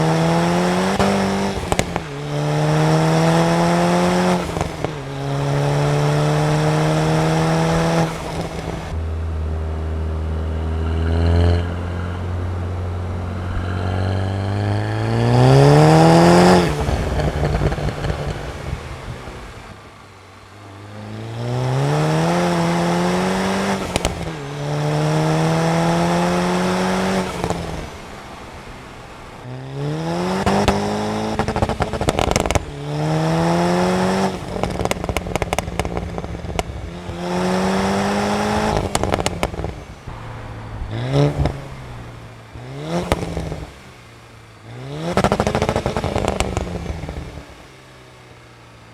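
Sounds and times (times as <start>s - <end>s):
sharp exhaust cracks: 0.0s - 47.6s
car engine accelerating hard: 0.0s - 48.9s.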